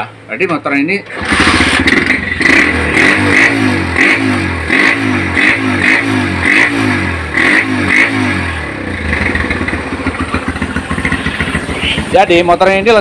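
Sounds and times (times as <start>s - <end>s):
motorcycle engine revving: 1.1s - 13.0s.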